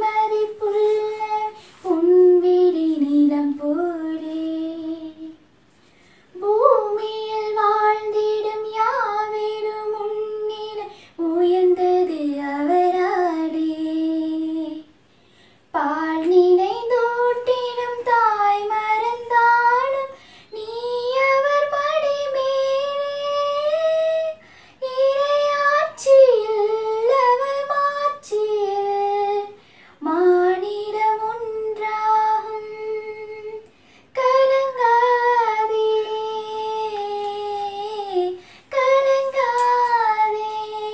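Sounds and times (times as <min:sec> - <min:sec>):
woman singing unaccompanied: 0:00.0 - 0:05.4, 0:06.4 - 0:15.0, 0:15.7 - 0:40.9.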